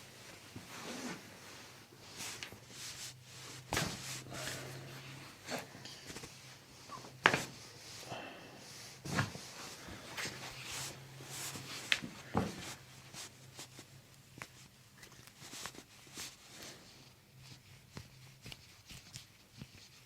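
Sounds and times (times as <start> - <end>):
low steady hum: 0.0 - 18.7
soft rustling: 0.0 - 20.0.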